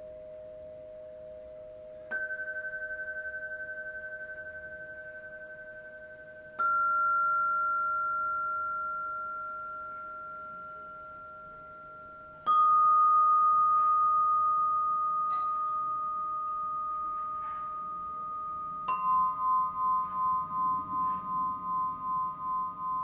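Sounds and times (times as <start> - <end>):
faint light tinkles: 0.0 - 23.0
ringing metal bowl tones: 0.0 - 23.0.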